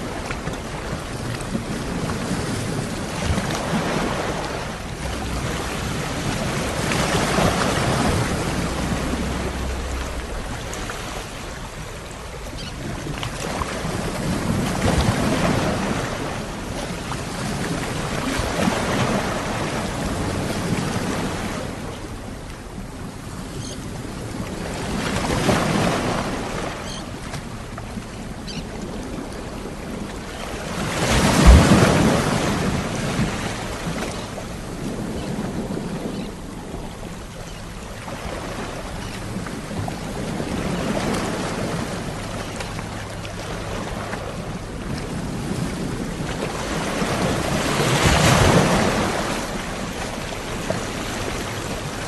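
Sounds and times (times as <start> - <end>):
ocean waves rolling in: 0.0 - 52.0.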